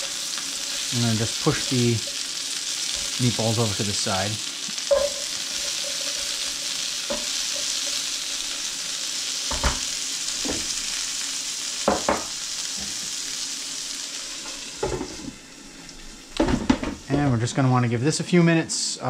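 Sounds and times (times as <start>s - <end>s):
food sizzling in a skillet: 0.0s - 17.2s.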